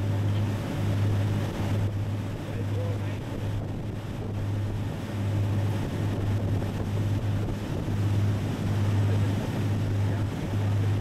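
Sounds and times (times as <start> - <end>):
boat engines droning: 0.0 - 11.0
water rushing past hull: 0.0 - 11.0
wind buffeting microphone: 0.0 - 11.0.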